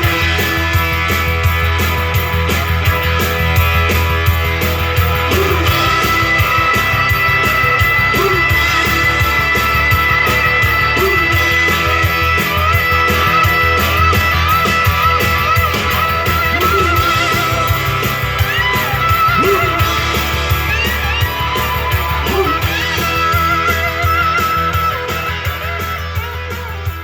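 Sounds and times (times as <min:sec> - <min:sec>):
bass guitar: 0:00.0 - 0:27.0
steady drum beat: 0:00.0 - 0:27.0
electric guitar solo: 0:03.0 - 0:27.0.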